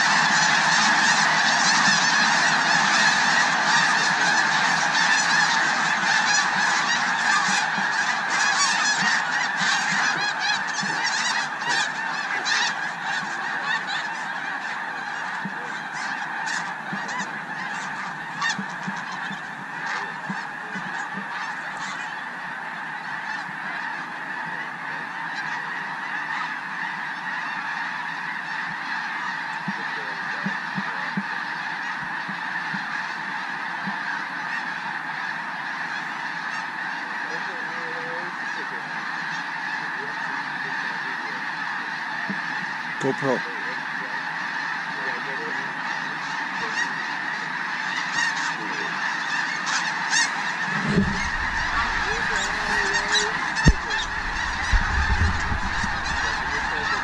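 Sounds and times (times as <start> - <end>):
geese honking: 0.0 - 57.0.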